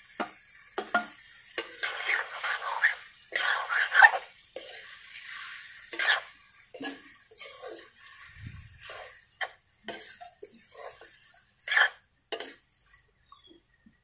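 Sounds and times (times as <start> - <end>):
light sizzle: 0.0 - 14.0
steel ladle scraping a pan: 0.8 - 12.7.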